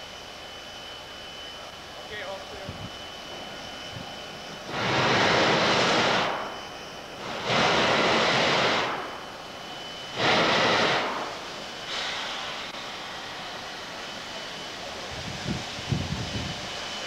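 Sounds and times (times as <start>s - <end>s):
steam locomotive venting steam: 0.0s - 17.0s.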